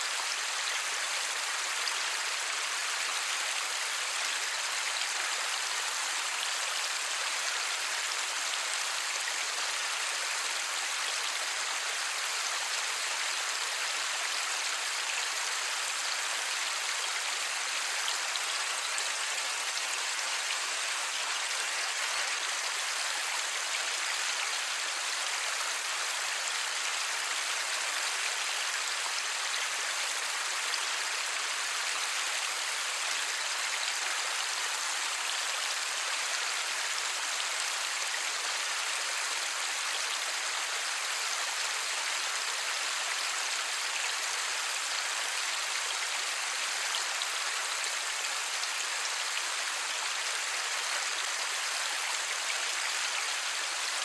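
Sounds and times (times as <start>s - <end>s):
light steady rain: 0.0s - 54.0s.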